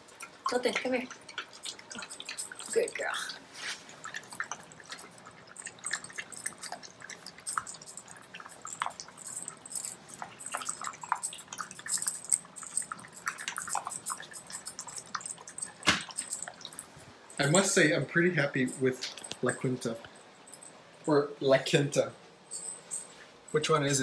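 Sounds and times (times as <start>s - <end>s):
dogs chewing and licking: 0.0s - 21.8s.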